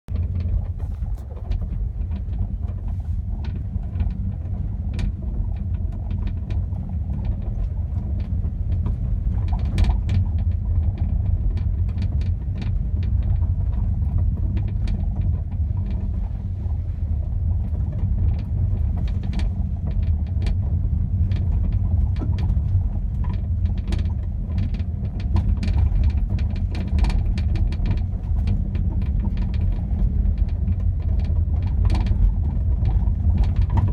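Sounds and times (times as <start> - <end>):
car road rumble: 0.0 - 33.9
rattling clicks and knocks: 0.1 - 33.9.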